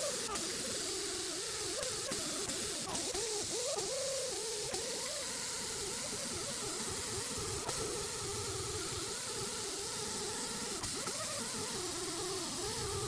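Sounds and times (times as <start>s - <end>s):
die grinder whining on rubber: 0.0s - 13.0s.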